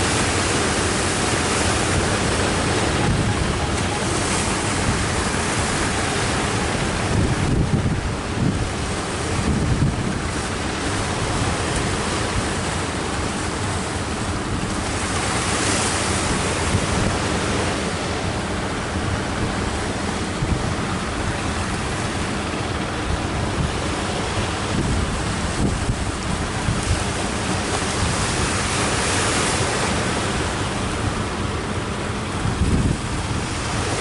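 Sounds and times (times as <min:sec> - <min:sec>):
surf breaking on beach: 0:00.0 - 0:34.0
wind buffeting microphone: 0:00.0 - 0:34.0.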